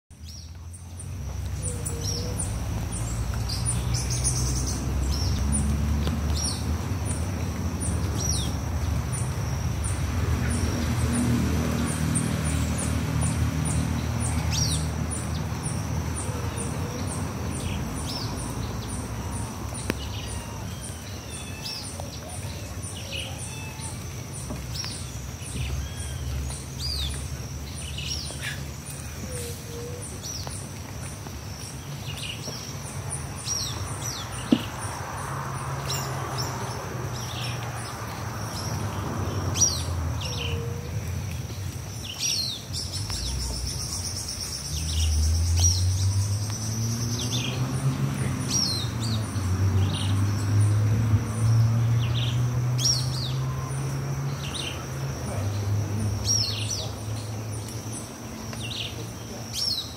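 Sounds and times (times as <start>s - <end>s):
small birds chirping: 0.1s - 59.9s.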